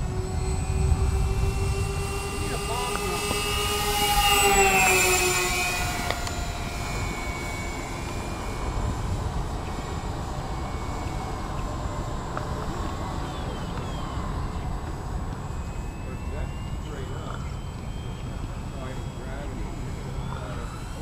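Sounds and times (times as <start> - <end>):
wind rumble on microphone: 0.0 - 19.5
rc plane motor whine: 0.0 - 21.0.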